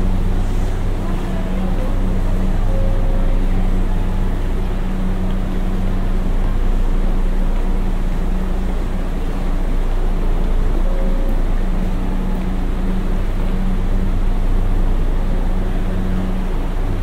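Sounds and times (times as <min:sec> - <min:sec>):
station noise: 0:00.0 - 0:16.8
train equipment humming: 0:00.0 - 0:17.0.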